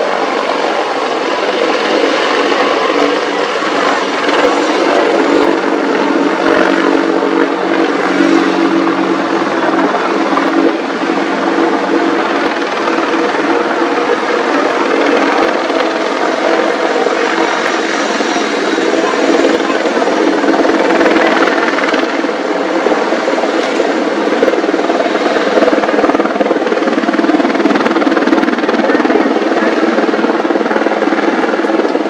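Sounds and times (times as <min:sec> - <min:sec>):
helicopter rotor and engine noise: 0:00.0 - 0:32.0.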